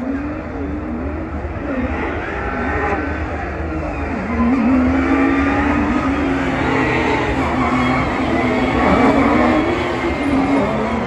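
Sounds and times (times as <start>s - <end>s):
race car engines at low revs: 0.0s - 11.0s.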